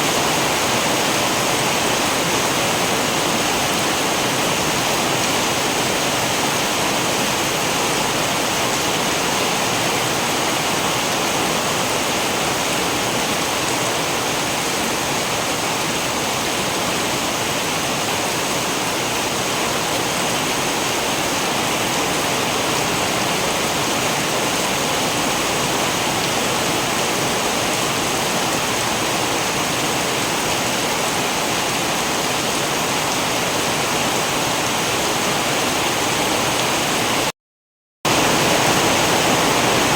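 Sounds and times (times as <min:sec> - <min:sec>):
heavy rain: 0:00.0 - 0:37.3, 0:38.1 - 0:39.9.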